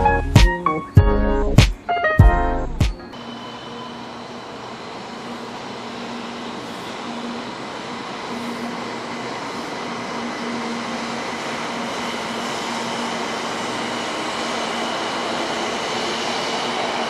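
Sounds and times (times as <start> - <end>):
high-speed train rushing: 0.0 - 17.0.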